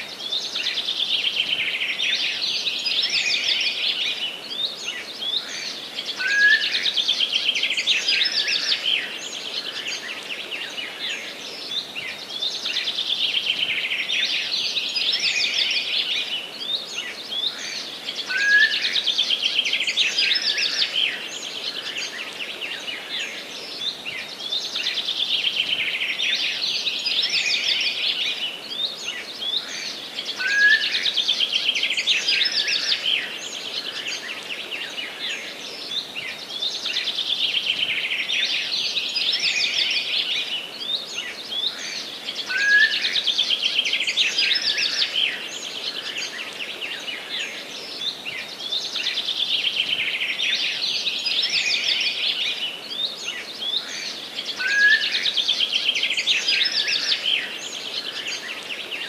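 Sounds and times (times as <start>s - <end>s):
songbirds singing trilled phrases: 0.0s - 59.0s.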